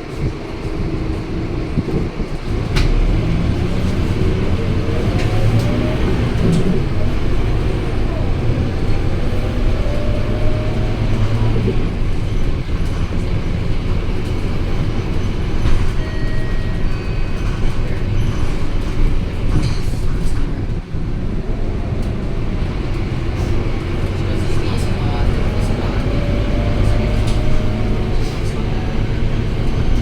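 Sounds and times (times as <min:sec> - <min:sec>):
bus engine drone: 0:00.0 - 0:30.0
road noise: 0:00.0 - 0:30.0.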